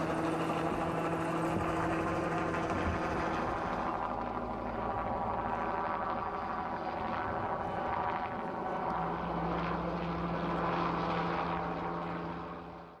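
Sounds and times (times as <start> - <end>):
aircraft engine running: 0.0 - 13.0.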